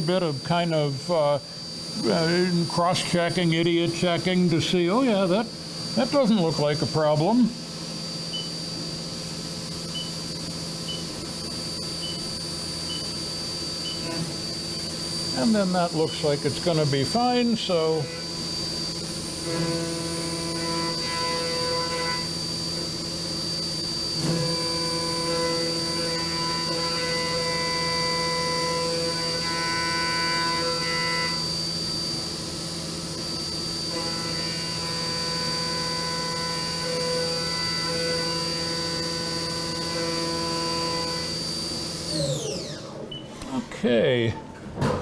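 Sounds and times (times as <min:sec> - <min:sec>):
milling machine whine: 0:00.0 - 0:43.2.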